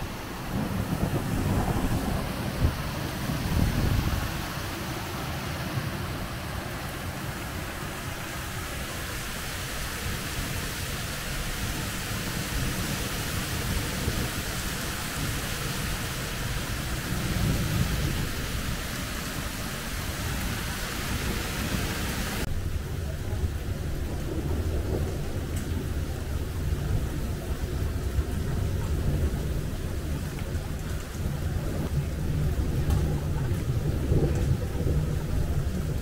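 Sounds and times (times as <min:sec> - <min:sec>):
low rumble of thunder: 0:00.0 - 0:05.0, 0:11.5 - 0:36.0
heavy rain hissing: 0:00.0 - 0:36.0.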